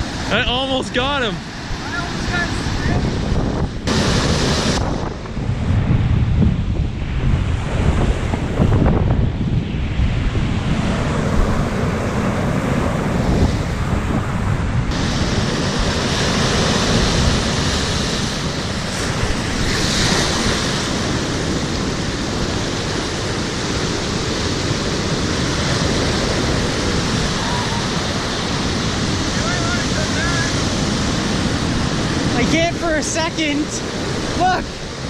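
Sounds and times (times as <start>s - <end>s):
lake waves breaking on beach: 0.0s - 35.0s
wind buffeting microphone: 0.0s - 35.0s.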